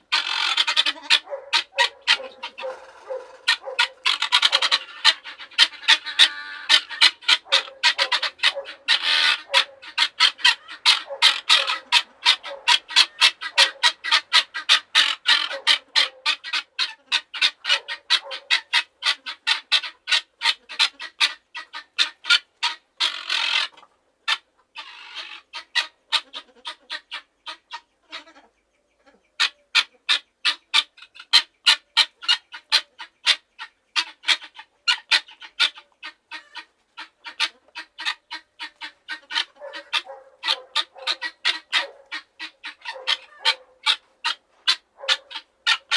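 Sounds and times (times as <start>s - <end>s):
fowl giving harsh calls: 0.0s - 28.5s, 29.1s - 45.9s.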